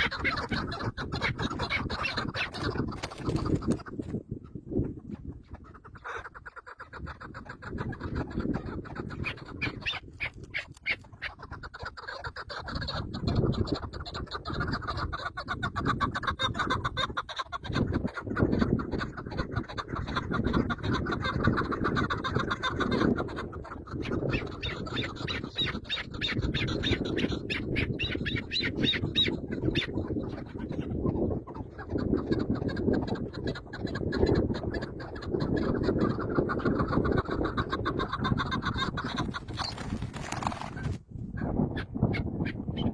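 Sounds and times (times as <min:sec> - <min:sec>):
birds squawking: 0:00.0 - 0:04.0, 0:05.3 - 0:18.8, 0:19.4 - 0:41.0.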